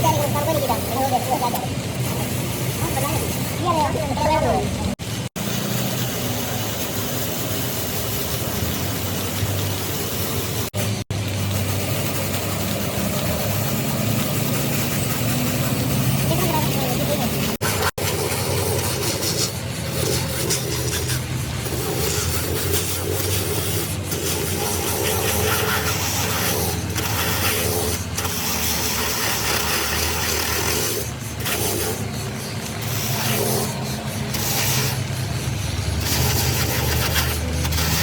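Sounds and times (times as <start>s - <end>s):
engine running: 0.0s - 38.0s
rough scraping noise: 5.3s - 38.0s.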